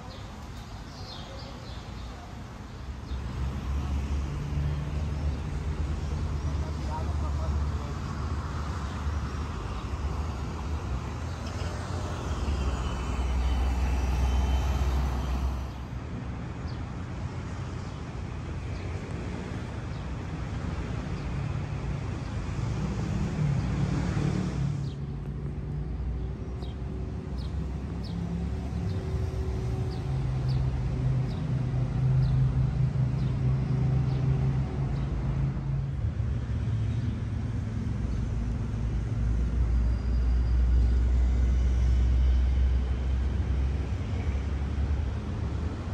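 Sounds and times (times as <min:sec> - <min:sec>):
cars passing: 0:00.0 - 0:16.9, 0:19.2 - 0:45.9.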